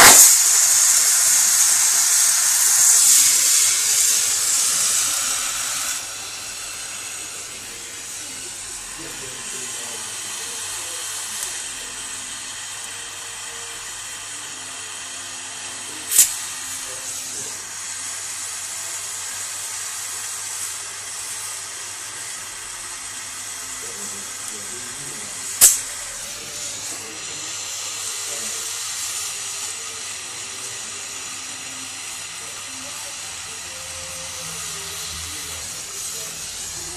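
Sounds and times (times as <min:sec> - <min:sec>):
gas torch flame hissing: 0:00.0 - 0:36.9.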